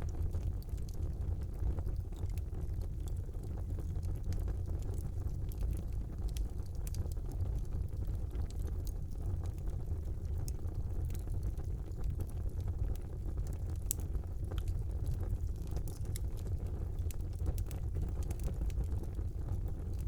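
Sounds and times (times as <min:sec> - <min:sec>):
fire rumbling and crackling: 0:00.0 - 0:20.0.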